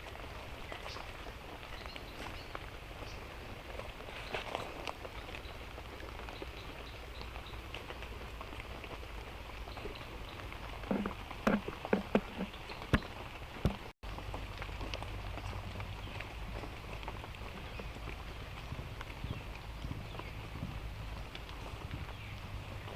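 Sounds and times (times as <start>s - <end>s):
light rain falling: 0.0s - 22.9s.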